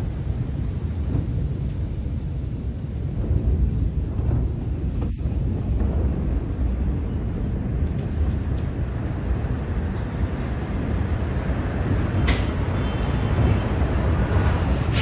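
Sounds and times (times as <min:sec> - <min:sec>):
deep explosion rumble: 0:00.0 - 0:15.0.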